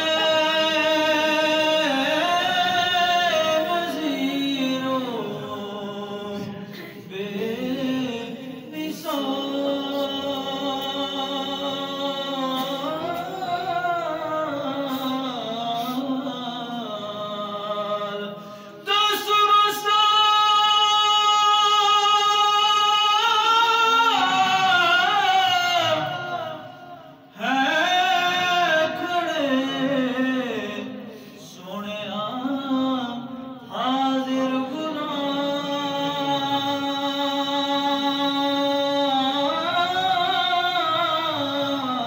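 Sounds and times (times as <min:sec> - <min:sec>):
man singing unaccompanied: 0:00.0 - 0:26.6, 0:27.3 - 0:42.0.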